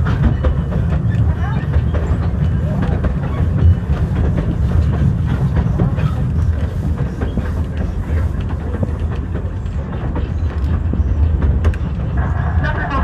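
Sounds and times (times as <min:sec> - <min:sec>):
train rumble from aboard: 0:00.0 - 0:13.0.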